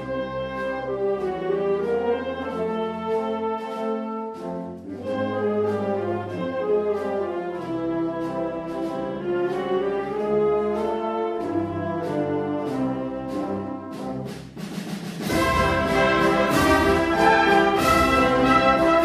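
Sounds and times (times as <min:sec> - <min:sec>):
wind band playing a march: 0:00.0 - 0:19.0.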